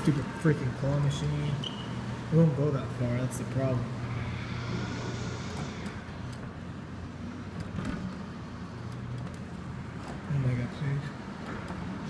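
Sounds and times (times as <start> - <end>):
low motor hum: 0.2 - 10.3.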